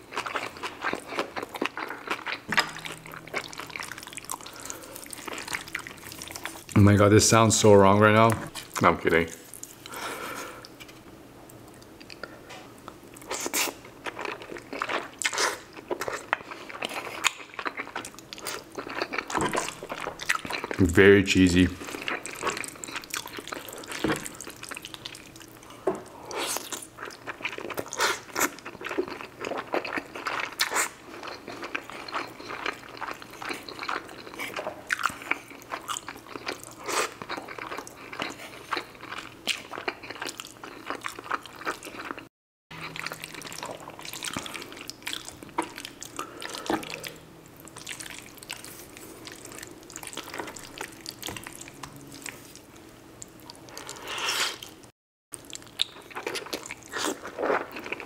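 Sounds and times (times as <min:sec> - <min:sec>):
wet chewing and smacking: 0:00.0 - 0:06.8, 0:11.6 - 0:20.8, 0:21.8 - 0:25.7, 0:26.3 - 0:58.0.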